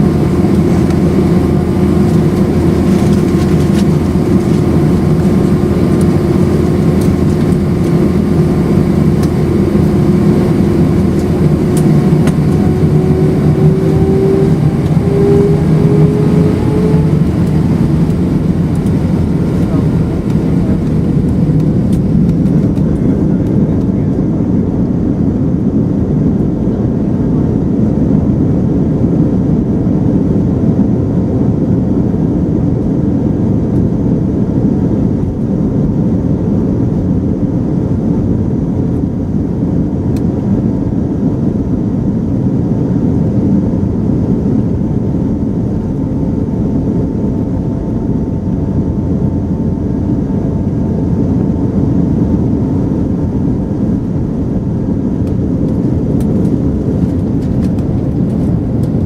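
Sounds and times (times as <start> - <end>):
faint steady hum: 0.0 - 59.0
jet engine cabin rumble: 0.0 - 59.0.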